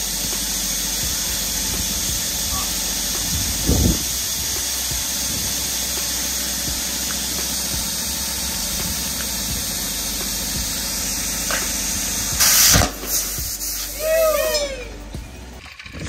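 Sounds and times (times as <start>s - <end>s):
compressed air hissing: 0.0s - 15.6s.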